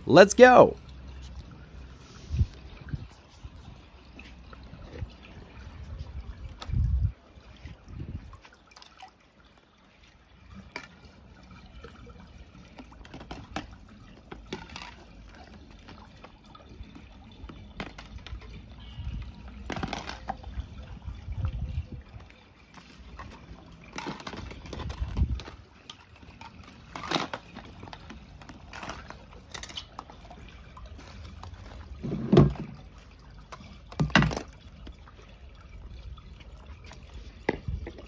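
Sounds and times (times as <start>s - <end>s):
water sloshing and trickling: 0.0s - 38.0s.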